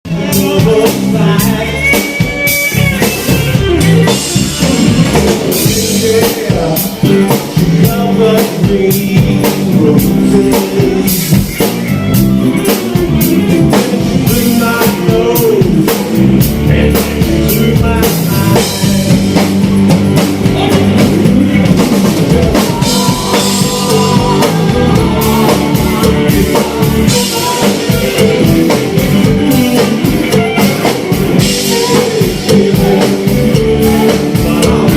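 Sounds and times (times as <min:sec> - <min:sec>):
person singing: 0:00.0 - 0:19.5, 0:20.4 - 0:34.9
drum kit: 0:00.0 - 0:34.9
guitar: 0:00.0 - 0:34.9.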